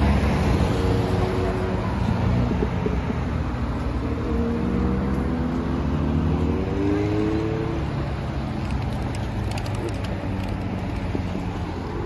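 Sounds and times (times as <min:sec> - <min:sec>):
low traffic rumble: 0:00.0 - 0:12.0
vehicle engines running: 0:00.0 - 0:12.0.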